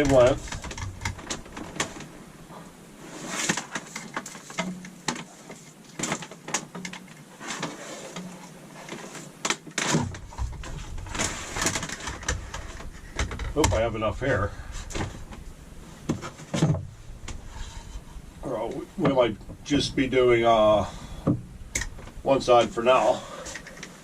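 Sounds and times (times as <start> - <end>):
wire handling clicks and rustles: 0.0 - 19.6, 21.2 - 22.7, 23.3 - 24.0.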